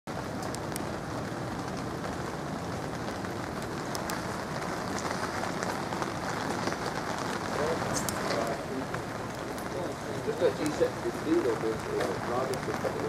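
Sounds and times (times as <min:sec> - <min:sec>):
rain on wet street: 0:00.1 - 0:13.0.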